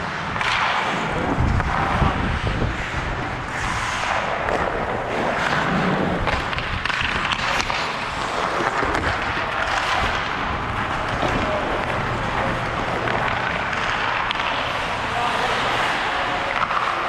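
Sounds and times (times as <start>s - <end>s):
skates and sticks scraping ice: 0.0s - 17.0s
sticks and puck clacking: 0.0s - 17.0s.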